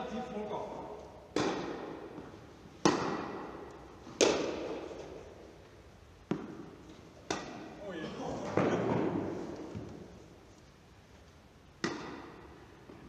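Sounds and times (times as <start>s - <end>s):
tennis ball impacts echoing: 0.2s - 5.6s, 6.2s - 10.2s, 11.8s - 13.0s.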